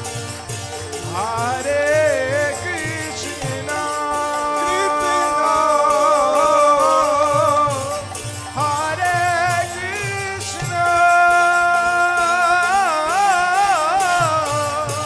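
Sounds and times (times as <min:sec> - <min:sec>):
devotional music held notes: 0:00.0 - 0:15.0
steady percussion beat: 0:00.0 - 0:15.0.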